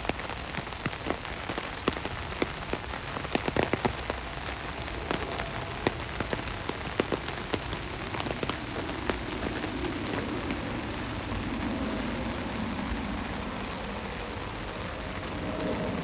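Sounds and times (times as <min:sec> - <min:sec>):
rain on window glass: 0:00.0 - 0:16.0.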